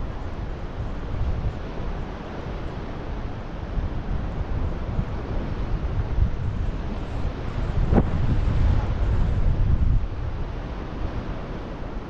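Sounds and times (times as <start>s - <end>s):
steady rushing noise: 0.0s - 12.0s
wind buffeting microphone: 0.0s - 12.0s.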